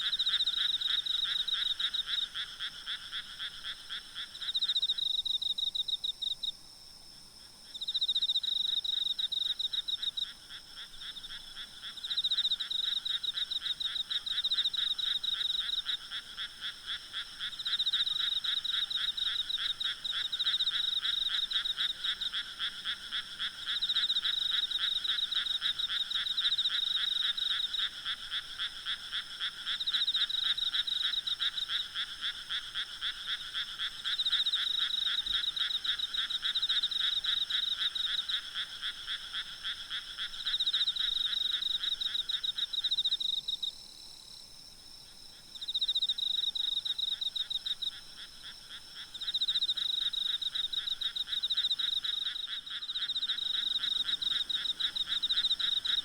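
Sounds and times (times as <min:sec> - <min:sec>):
frogs croaking: 0:00.0 - 0:06.5, 0:07.5 - 0:56.0
insects trilling: 0:07.7 - 0:56.0.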